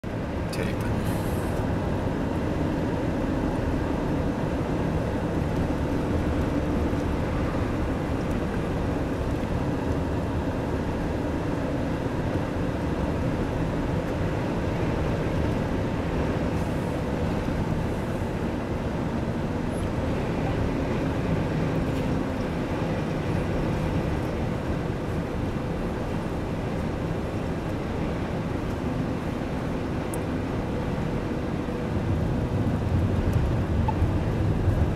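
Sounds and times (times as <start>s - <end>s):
car engine rumble: 0.0s - 34.9s
tyres on road: 0.0s - 34.9s.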